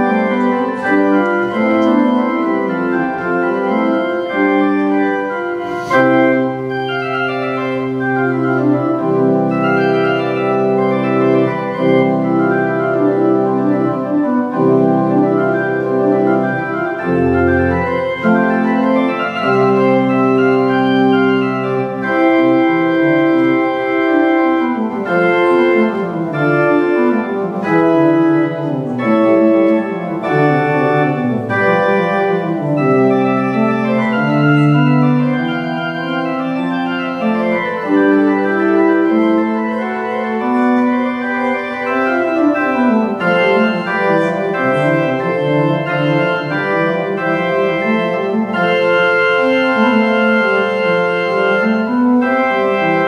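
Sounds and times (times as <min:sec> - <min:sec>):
organ music: 0:00.0 - 0:53.0.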